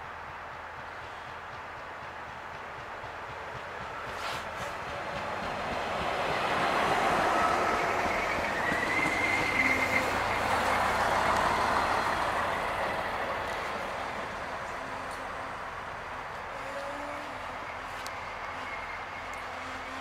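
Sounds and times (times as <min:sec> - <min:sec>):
diesel train passing: 0:00.0 - 0:20.0
high train whine: 0:00.0 - 0:20.0.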